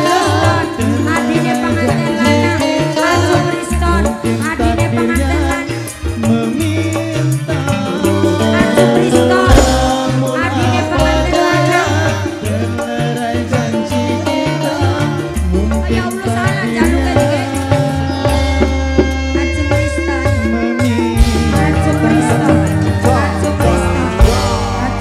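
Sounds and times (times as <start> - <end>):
bass and drum beat: 0.0 - 25.0
electric guitar melody: 0.0 - 25.0
keyboard melody: 0.0 - 25.0.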